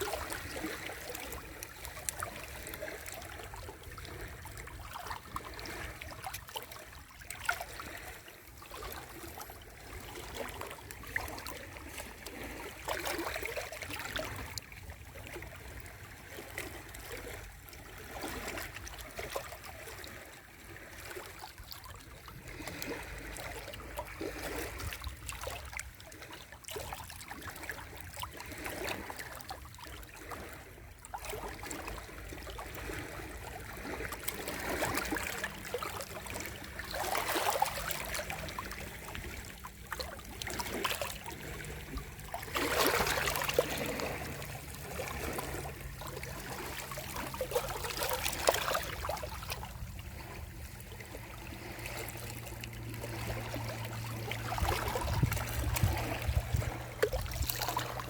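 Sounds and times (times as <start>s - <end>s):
small waves breaking on shore: 0.0s - 58.0s.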